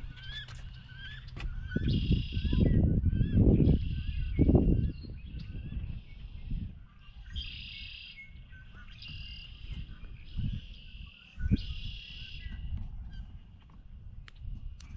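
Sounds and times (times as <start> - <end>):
low rumble on microphone: 0.0 - 7.6, 8.3 - 14.9
songbirds buzzy trills: 0.0 - 14.9.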